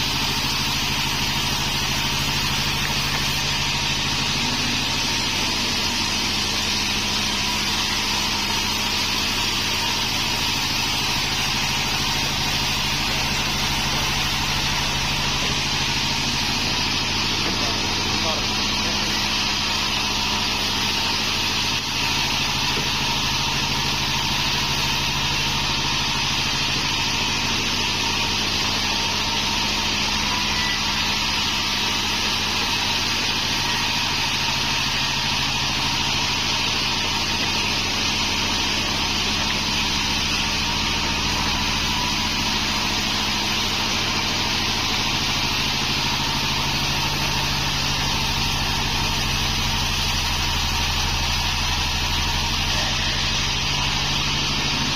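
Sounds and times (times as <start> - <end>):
saw blade hiss: 0.0 - 54.9
sawmill machine hum: 0.0 - 54.9.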